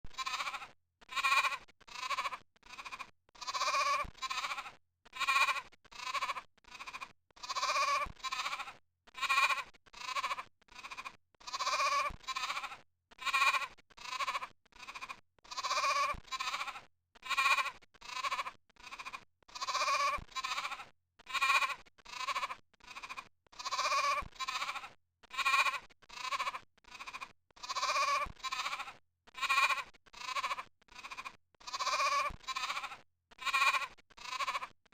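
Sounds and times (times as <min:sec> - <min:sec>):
goat bleating: 0:00.1 - 0:34.8.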